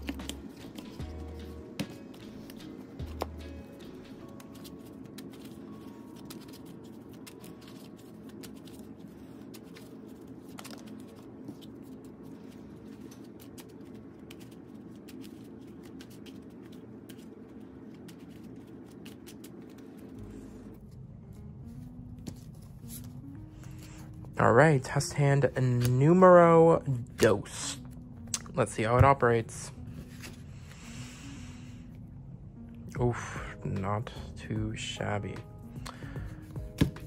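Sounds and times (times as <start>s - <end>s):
sleeved cards shuffling: 0.0s - 29.2s, 29.8s - 30.8s, 36.0s - 37.0s
steady low hum: 0.0s - 37.0s.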